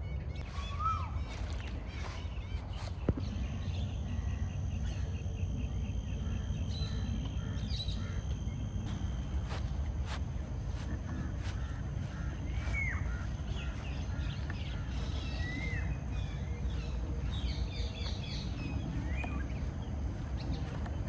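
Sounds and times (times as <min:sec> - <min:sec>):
birds calling: 0:00.0 - 0:21.0
low outdoor rumble: 0:00.0 - 0:21.0
high chirps: 0:00.4 - 0:21.0.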